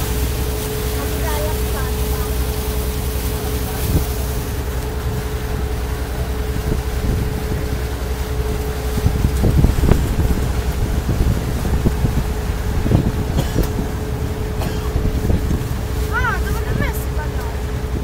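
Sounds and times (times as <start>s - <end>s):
motorboat engine running: 0.0s - 18.0s
water rushing: 0.0s - 18.0s
wind buffeting microphone: 0.0s - 18.0s.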